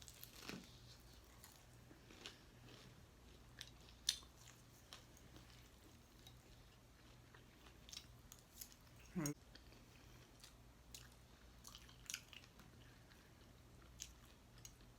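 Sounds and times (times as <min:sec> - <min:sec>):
chewing and crunching: 0:00.0 - 0:14.9.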